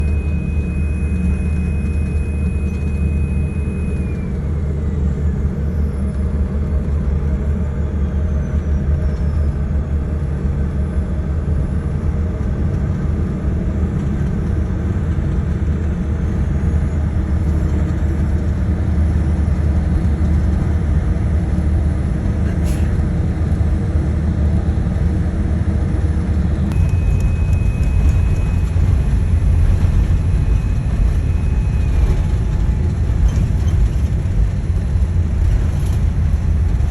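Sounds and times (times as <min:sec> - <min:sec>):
high engine whine: 0:00.0 - 0:36.9
jet engines rumbling: 0:00.0 - 0:36.9.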